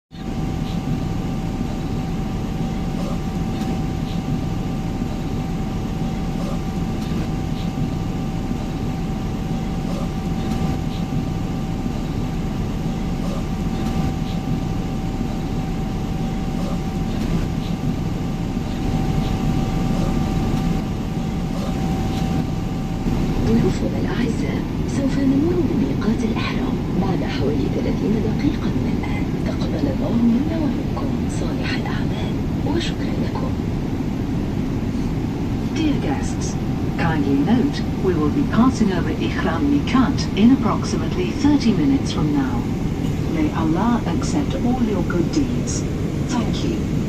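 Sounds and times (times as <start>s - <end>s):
airliner cabin rumble: 0.1s - 47.0s
faint two-tone hum: 0.1s - 47.0s.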